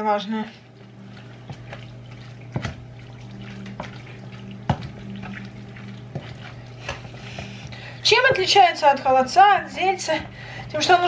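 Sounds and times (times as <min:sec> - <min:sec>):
spoon stirring thick mixture: 0:00.0 - 0:11.0
steady low hum: 0:00.0 - 0:11.0.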